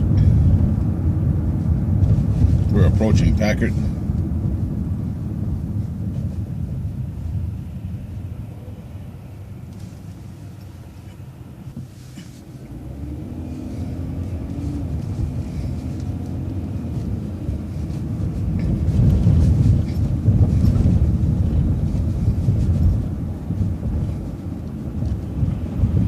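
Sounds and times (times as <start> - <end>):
vehicle driving rumble: 0.0 - 26.0.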